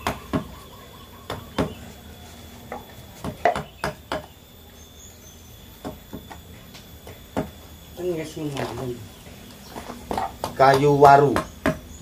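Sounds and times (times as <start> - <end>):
faint steady high tone: 0.0 - 9.9.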